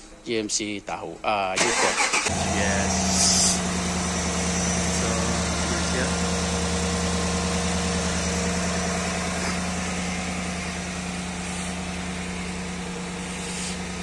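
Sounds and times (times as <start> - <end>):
car engine idling: 1.6 - 14.0.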